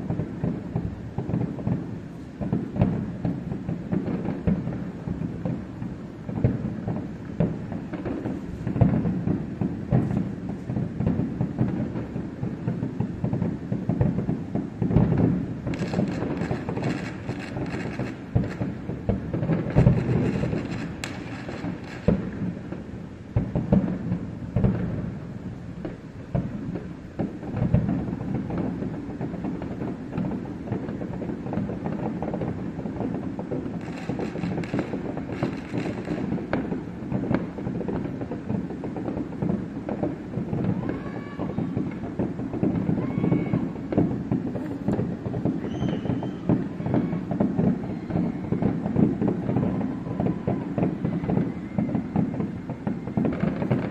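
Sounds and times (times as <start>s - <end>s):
continuous low rumble: 0.0s - 45.6s
fireworks bangs and crackles: 0.0s - 53.9s.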